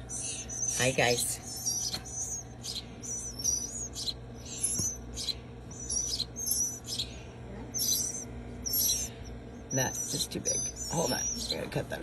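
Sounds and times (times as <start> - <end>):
chicks begging chirps: 0.0 - 12.0.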